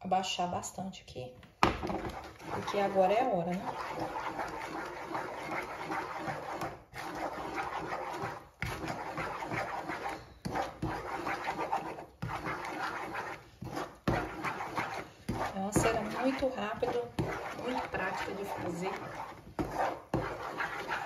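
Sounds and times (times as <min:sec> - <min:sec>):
wooden spatula scraping pan: 0:01.8 - 0:21.0.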